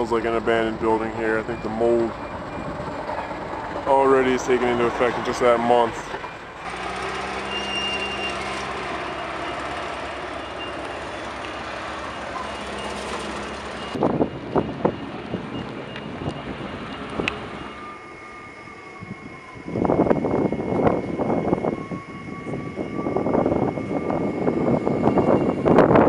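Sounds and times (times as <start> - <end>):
street sound: 0.0 - 26.0
vehicle engine humming: 0.0 - 26.0.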